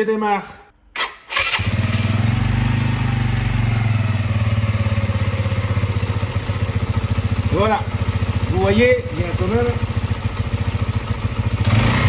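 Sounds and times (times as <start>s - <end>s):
motorcycle engine starting and idling: 0.9s - 12.0s.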